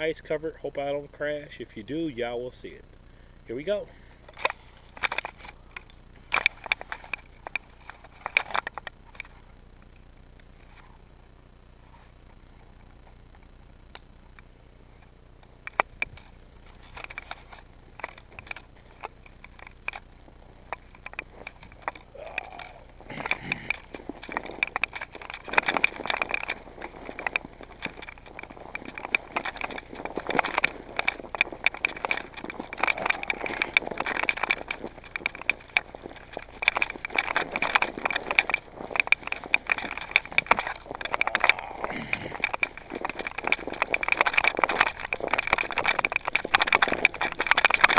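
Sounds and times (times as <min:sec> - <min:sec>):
mountain bike rattling: 0:00.0 - 0:11.0, 0:14.0 - 0:47.9
tyres crunching over snow: 0:03.4 - 0:09.5, 0:14.9 - 0:47.9.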